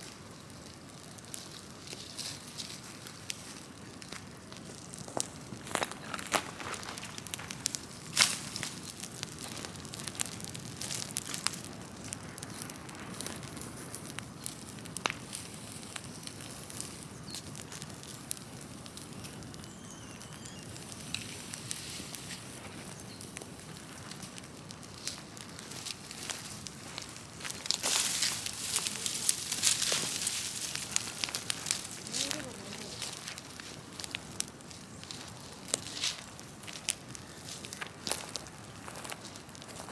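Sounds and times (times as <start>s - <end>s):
fire rushing: 0.0s - 39.9s
wood popping and crackling: 0.0s - 39.9s.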